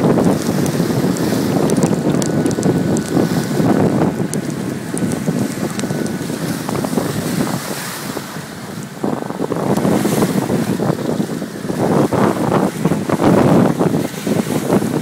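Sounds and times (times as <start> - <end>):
lake water splashing: 0.0 - 15.0
wind buffeting microphone: 0.0 - 15.0.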